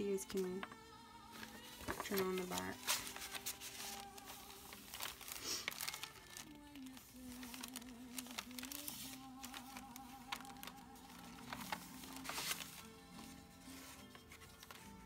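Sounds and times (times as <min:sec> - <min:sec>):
faint background music: 0:00.0 - 0:15.0
paper pages rustling: 0:00.4 - 0:15.0.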